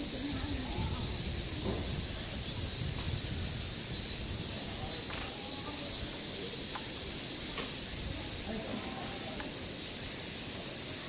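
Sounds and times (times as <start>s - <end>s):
cicada chorus: 0.0s - 11.0s.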